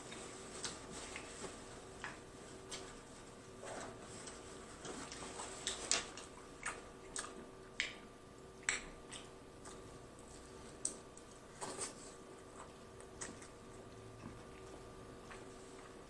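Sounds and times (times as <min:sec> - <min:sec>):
person chewing with lip smacks: 0:00.0 - 0:02.9, 0:04.3 - 0:16.0.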